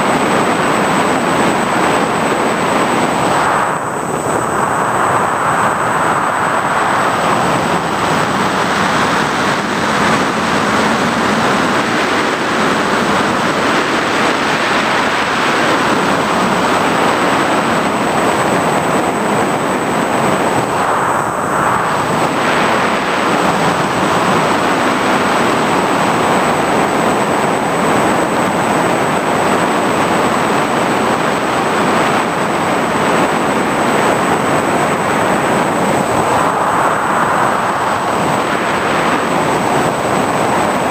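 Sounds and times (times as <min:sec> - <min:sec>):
drone motors and propellers rushing: 0:00.0 - 0:40.9
high-pitched whine: 0:00.0 - 0:40.9.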